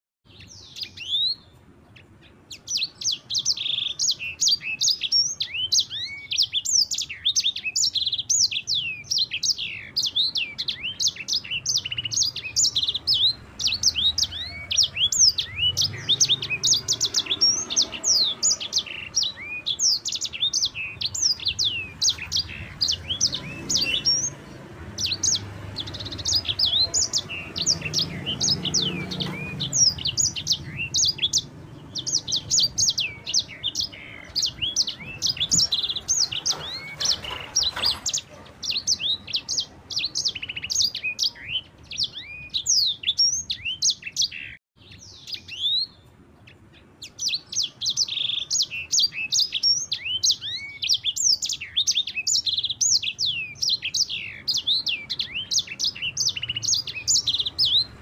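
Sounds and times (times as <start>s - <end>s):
songbird singing: 0.2s - 58.0s.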